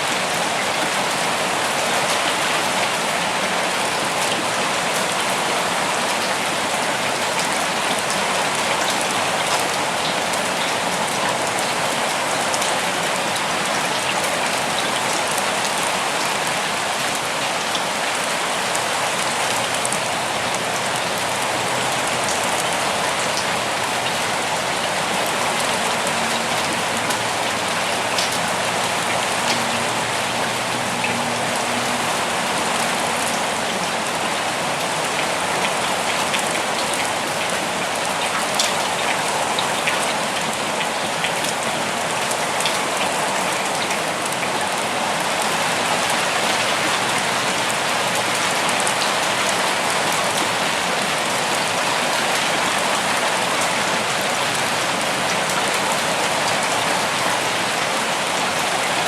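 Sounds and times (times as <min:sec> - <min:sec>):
steady rain in a forest: 0:00.0 - 0:59.0
close raindrops striking: 0:00.1 - 0:59.0.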